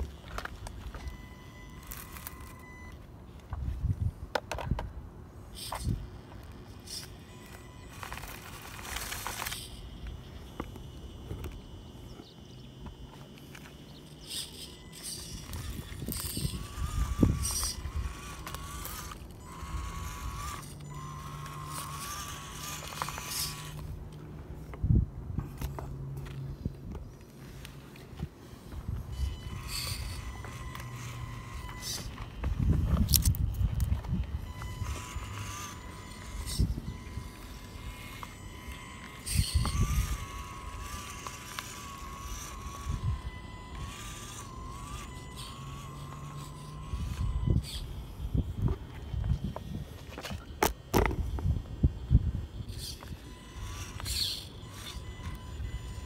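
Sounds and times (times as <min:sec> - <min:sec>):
rc truck motor whining: 0:00.0 - 0:56.0.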